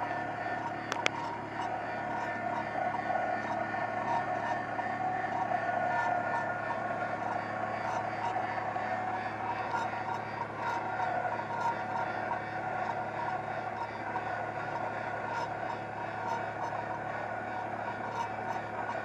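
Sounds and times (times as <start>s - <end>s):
boat motor droning: 0.0s - 19.0s.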